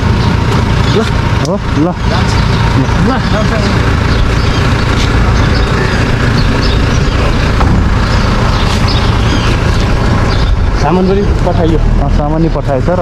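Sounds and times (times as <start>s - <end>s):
large vehicle engine rumbling: 0.0s - 13.0s.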